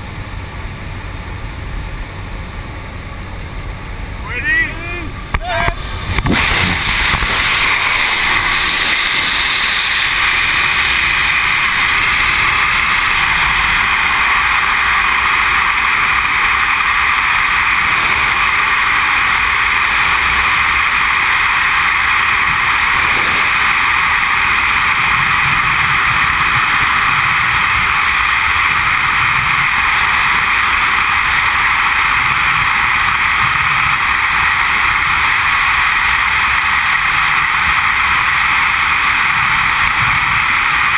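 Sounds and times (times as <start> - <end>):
freefall wind rush: 3.6 - 40.9.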